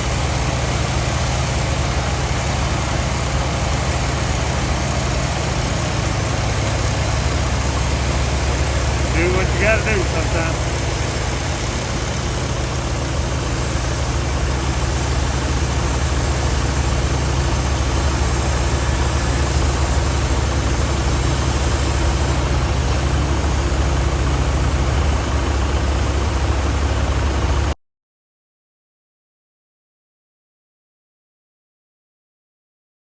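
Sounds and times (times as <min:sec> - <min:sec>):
sawmill engine running: 0:00.0 - 0:27.8.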